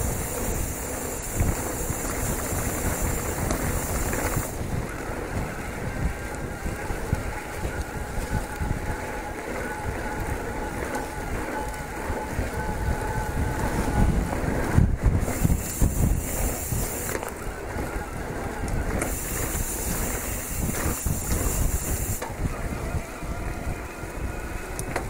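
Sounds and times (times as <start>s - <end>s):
bike tyres rattling on stony track: 0.0s - 25.0s
electric motor whine: 0.0s - 25.0s
wind buffeting microphone: 0.0s - 25.0s.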